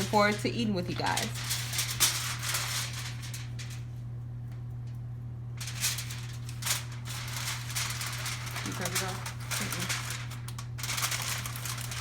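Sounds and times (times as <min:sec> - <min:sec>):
crackly rustling and handling: 0:00.0 - 0:12.0
low electrical hum: 0:00.0 - 0:12.0.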